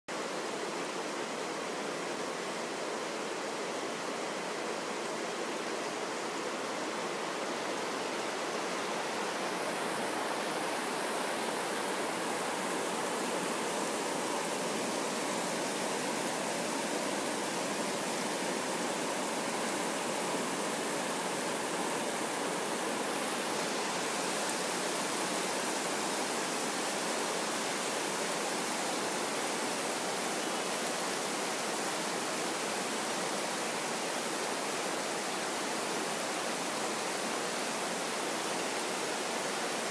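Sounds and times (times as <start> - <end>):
heavy rain falling: 6.9 - 39.9.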